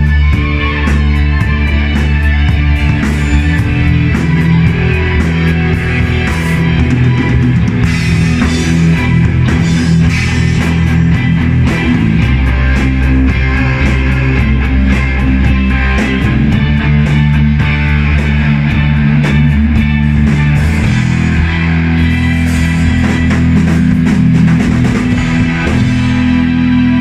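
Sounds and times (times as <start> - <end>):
drum kit with cymbals: 0.0 - 27.0
live rock band playing: 0.0 - 27.0.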